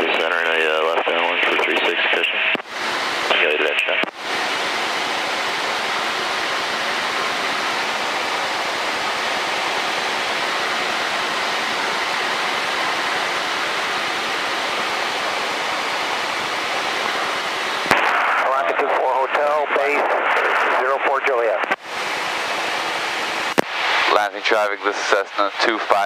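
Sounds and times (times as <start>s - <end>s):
small plane cabin drone: 0.0s - 26.0s.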